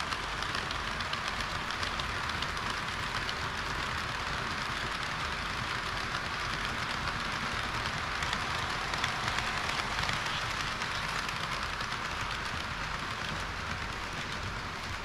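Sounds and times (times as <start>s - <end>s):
model train wheels rattling: 0.0s - 15.0s
rail joint clicks: 0.0s - 15.0s.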